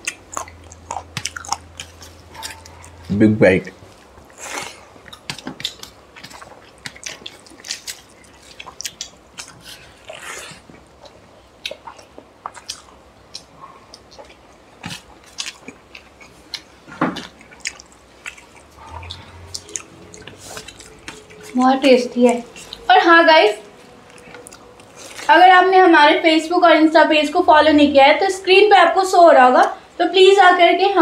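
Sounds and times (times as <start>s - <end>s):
people chewing and smacking: 0.0s - 25.9s.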